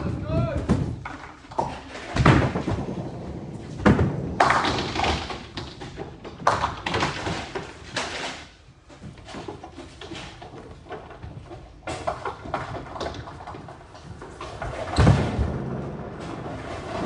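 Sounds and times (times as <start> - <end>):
bowling balls thudding on lanes: 0.0 - 8.4, 9.2 - 17.0.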